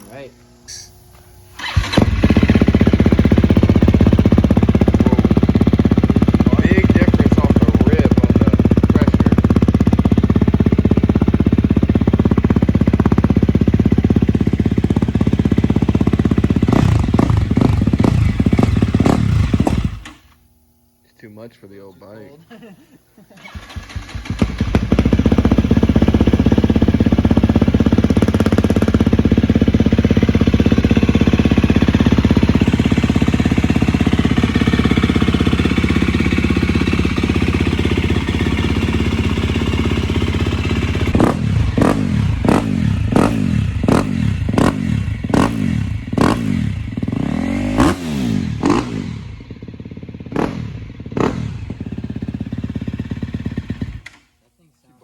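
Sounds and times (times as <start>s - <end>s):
motorcycle engine revving: 1.5s - 20.4s, 23.4s - 54.2s.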